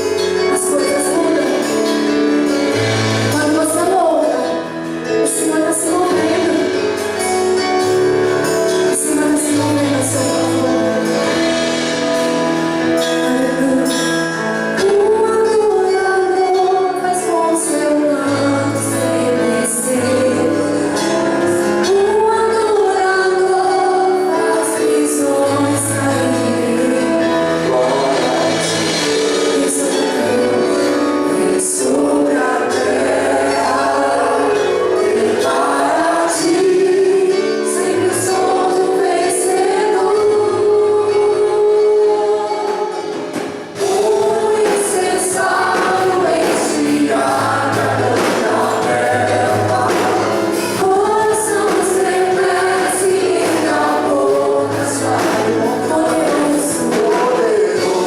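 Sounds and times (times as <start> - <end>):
bass: 0.0 - 43.1, 43.7 - 58.0
choir singing gospel song: 0.0 - 58.0.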